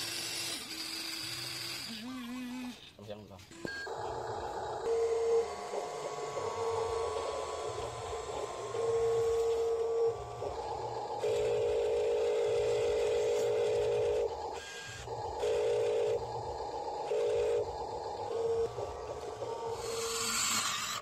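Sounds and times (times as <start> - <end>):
electric motor whining: 0.0 - 2.8, 3.5 - 21.0.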